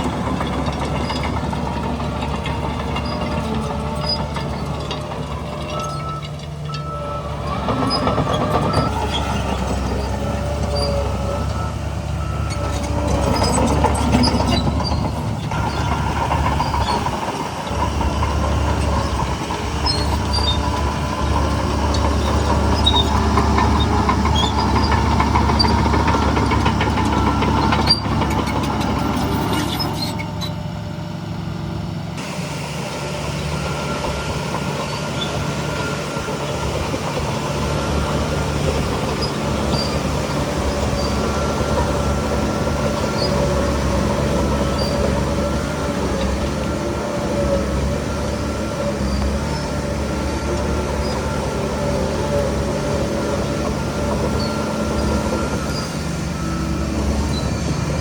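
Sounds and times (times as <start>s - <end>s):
steel tracks clattering and squealing: 0.0s - 30.8s, 32.2s - 58.0s
bulldozer diesel engine under load: 0.0s - 58.0s.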